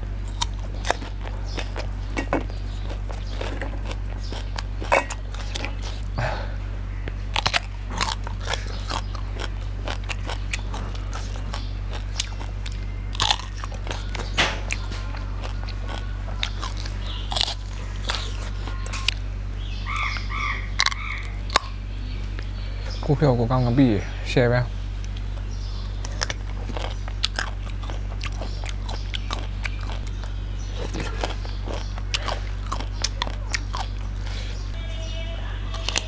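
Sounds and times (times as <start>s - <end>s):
crunching raw vegetables: 0.0s - 22.6s, 25.0s - 34.8s, 35.6s - 36.0s
steady low hum: 0.0s - 36.0s.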